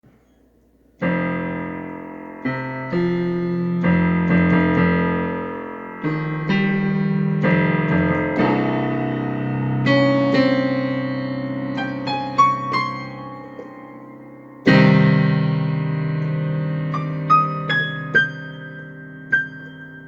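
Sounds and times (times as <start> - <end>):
piano chords: 0.7 - 20.0.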